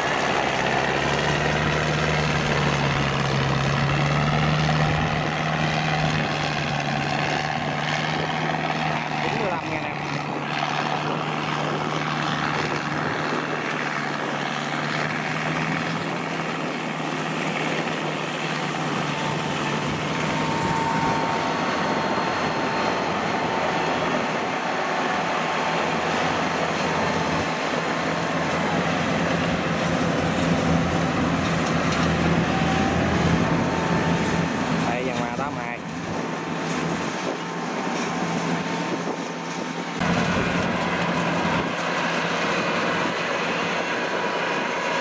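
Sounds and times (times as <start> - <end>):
combine harvester running: 0.0 - 45.0
faint mechanical whine: 4.7 - 44.4.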